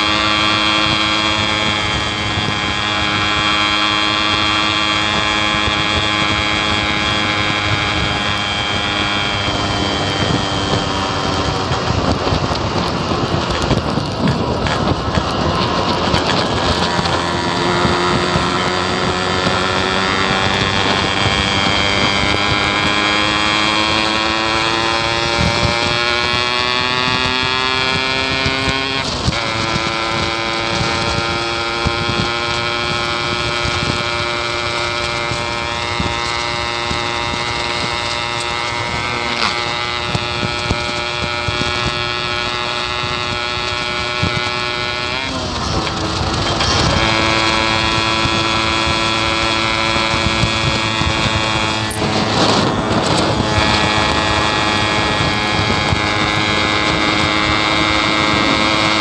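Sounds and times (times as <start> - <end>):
two-stroke motorcycle engine running: 0.0 - 59.0.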